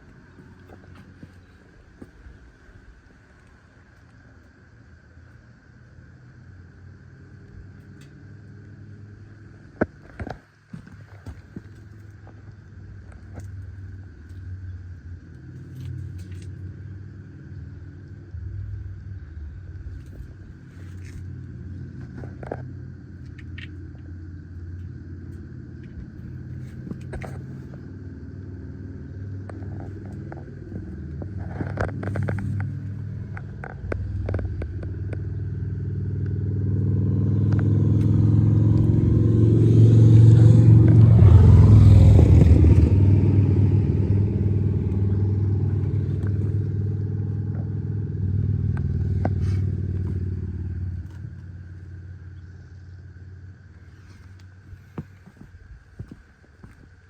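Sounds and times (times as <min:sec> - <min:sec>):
pickup engine running: 0:00.0 - 0:57.0.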